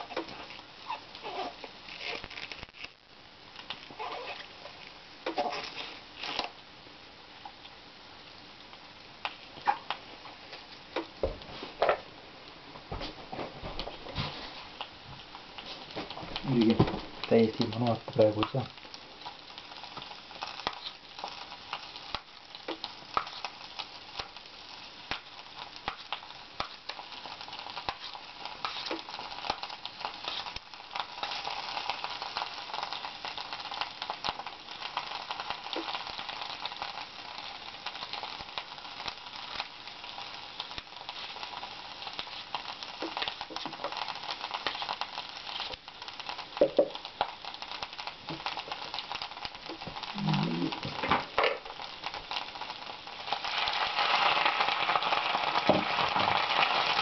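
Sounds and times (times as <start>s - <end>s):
food sizzling in a frying pan: 0.0s - 12.6s, 13.7s - 57.0s.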